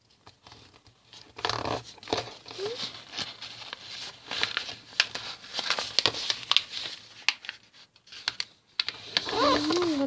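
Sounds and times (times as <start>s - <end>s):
paper crinkling being folded: 0.0s - 10.0s.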